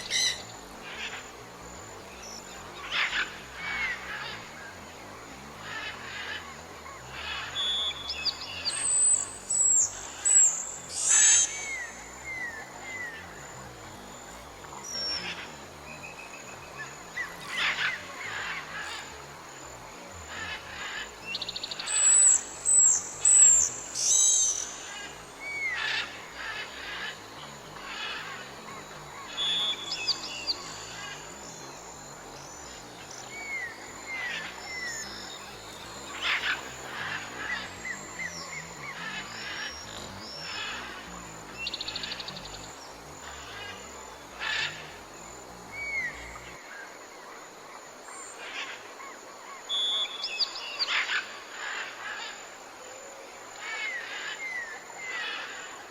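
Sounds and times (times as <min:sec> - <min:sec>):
buzzy bird trills: 0:00.0 - 0:19.6, 0:20.2 - 0:46.6
songbirds chirping: 0:00.0 - 0:55.9.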